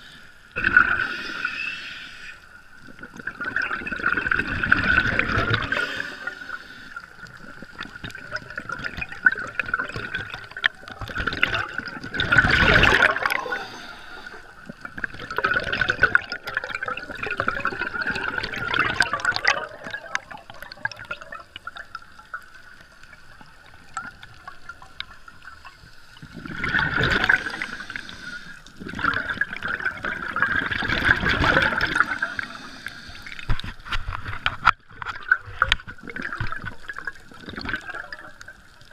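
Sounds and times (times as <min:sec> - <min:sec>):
underwater air bubbles gushing: 0:00.0 - 0:01.8, 0:02.4 - 0:38.9.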